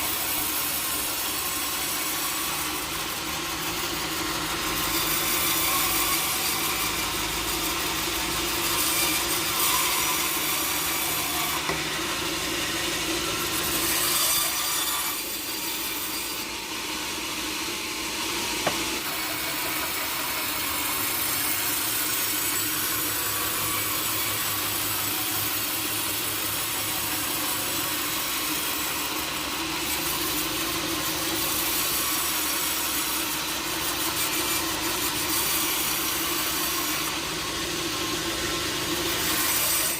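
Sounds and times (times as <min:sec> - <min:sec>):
saw blade rasping through wood: 0:00.0 - 0:39.9
sawmill machine hum: 0:00.0 - 0:39.9.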